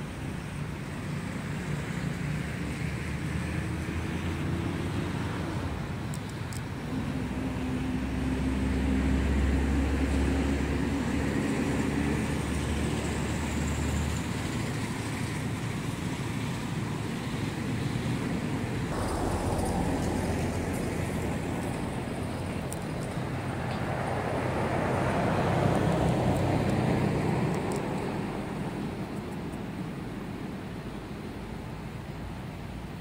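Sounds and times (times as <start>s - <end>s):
traffic rumble: 0.0s - 33.0s
engine humming: 2.7s - 32.6s.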